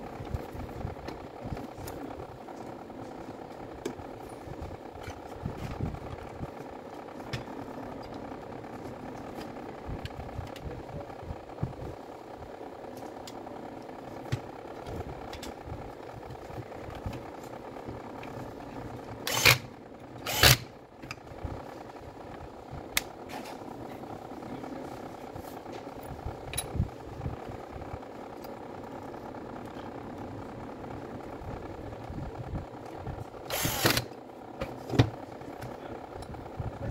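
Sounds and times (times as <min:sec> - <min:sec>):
steady engine-like drone: 0:00.0 - 0:36.9.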